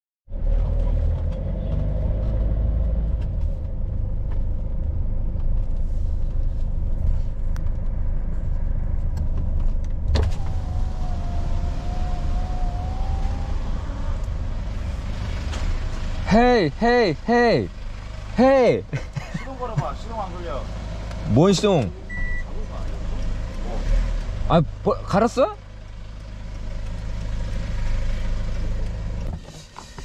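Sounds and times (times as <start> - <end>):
engine and road rumble: 0.3 - 30.0.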